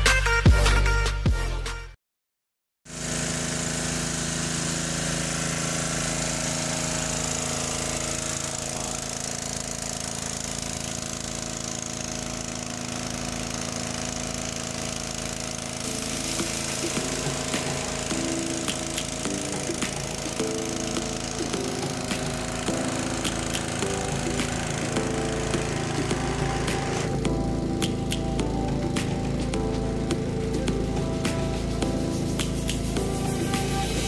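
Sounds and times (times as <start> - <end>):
small engine running steadily: 2.9 - 34.0.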